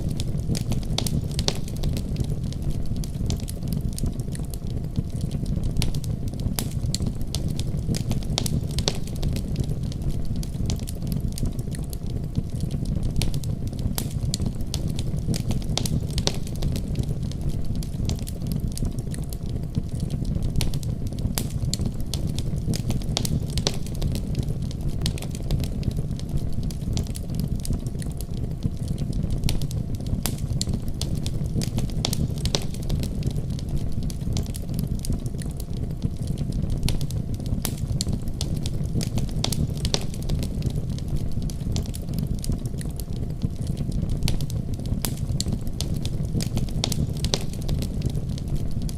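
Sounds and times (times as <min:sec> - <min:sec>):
low rumble of burning: 0:00.0 - 0:48.9
wood fire crackling and popping: 0:00.0 - 0:48.9.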